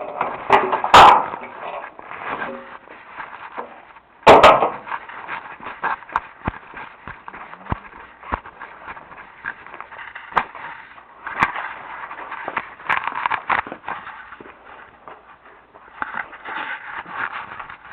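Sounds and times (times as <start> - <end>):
footsteps: 0.0 - 17.9
rustling: 0.0 - 17.9.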